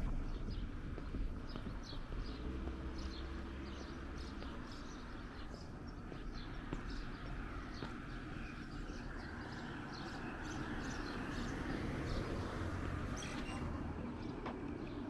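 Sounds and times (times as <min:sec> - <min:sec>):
birds chirping: 0:00.0 - 0:15.0
street traffic rumble: 0:00.0 - 0:15.0.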